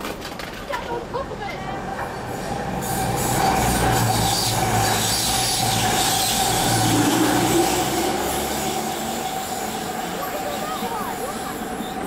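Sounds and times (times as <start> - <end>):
train running gear rumble: 0.0 - 12.0
train wheels screeching on rails: 1.8 - 12.0.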